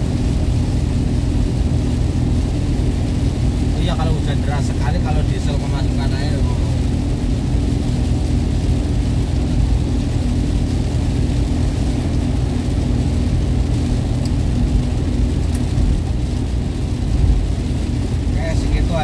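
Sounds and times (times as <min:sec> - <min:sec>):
car engine hum: 0:00.0 - 0:19.0
heavy rain on car body: 0:00.0 - 0:19.0.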